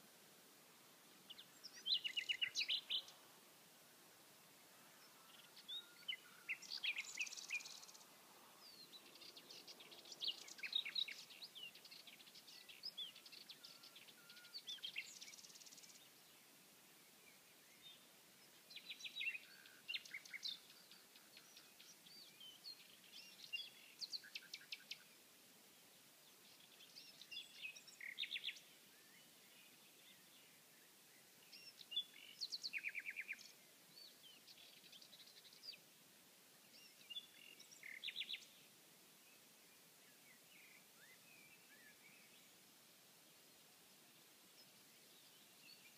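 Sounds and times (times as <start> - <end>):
nightingale singing: 1.2 - 3.3, 4.4 - 16.4, 17.0 - 25.2, 26.3 - 35.9, 36.6 - 42.6, 44.1 - 45.9.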